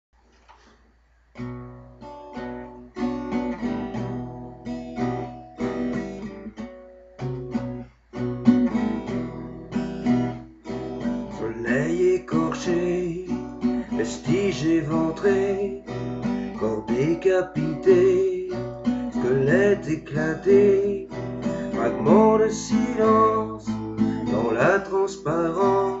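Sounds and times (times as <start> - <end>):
acoustic guitar strumming chords: 1.4 - 26.0.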